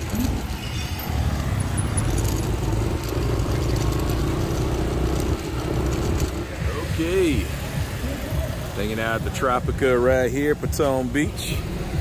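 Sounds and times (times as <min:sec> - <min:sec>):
motorbike engine running: 0:00.0 - 0:12.0
wind and road noise: 0:00.0 - 0:12.0.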